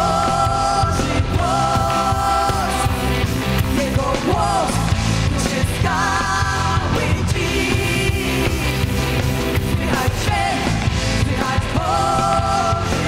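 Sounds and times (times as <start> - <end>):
electric guitar: 0.0 - 13.0
full band backing: 0.0 - 13.0.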